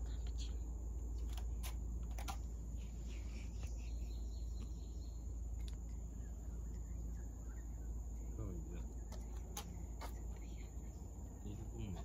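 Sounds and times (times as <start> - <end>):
faint bird chirp: 0.0 - 12.0.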